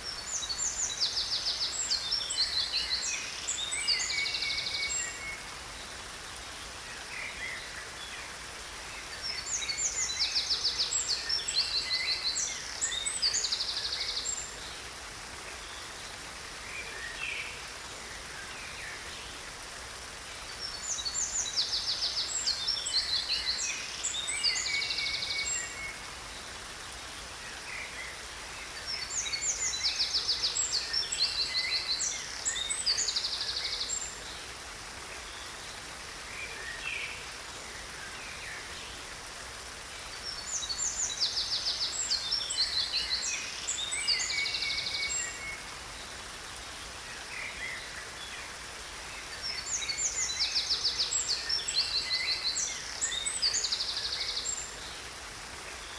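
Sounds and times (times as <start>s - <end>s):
falling water rushing: 0.0s - 55.9s
songbirds chirping and trilling: 0.0s - 55.9s.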